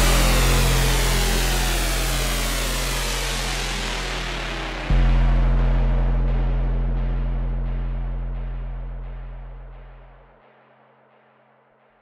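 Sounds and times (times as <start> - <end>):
deep sustained low note: 0.0 - 10.4.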